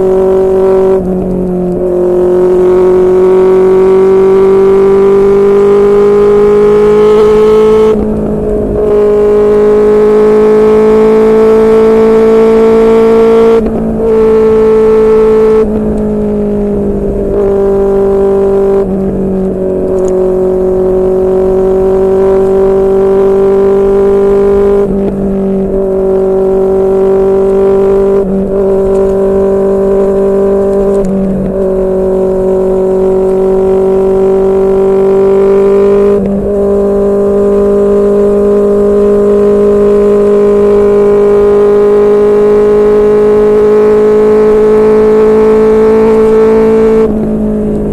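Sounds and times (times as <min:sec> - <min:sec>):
motorcycle engine cruising: 0:00.0 - 0:47.9.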